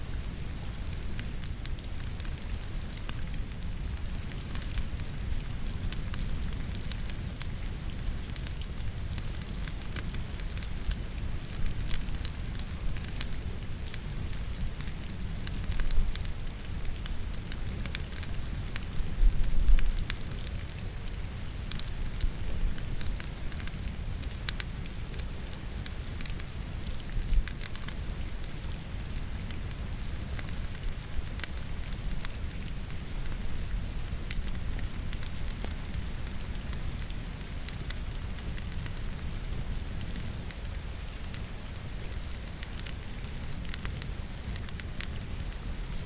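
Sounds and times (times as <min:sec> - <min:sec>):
steady rain: 0:00.0 - 0:46.0
wood fire crackling: 0:00.0 - 0:46.0.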